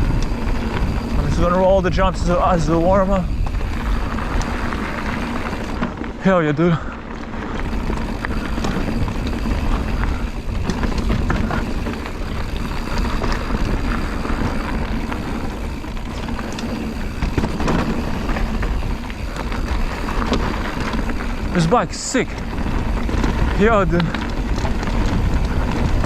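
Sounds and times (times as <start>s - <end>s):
wind on microphone: 0.0s - 6.1s, 7.4s - 26.0s
bike chain and frame rattling: 0.0s - 26.0s
tyres on dirt: 0.0s - 26.0s.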